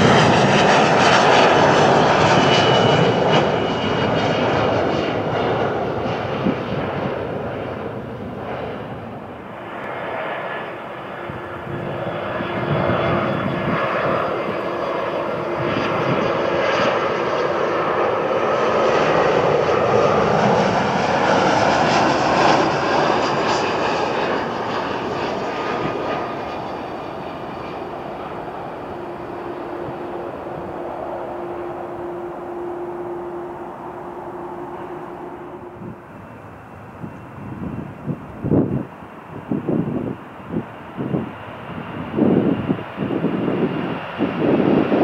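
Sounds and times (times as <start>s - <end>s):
jet airliner engine noise: 0.0s - 45.0s.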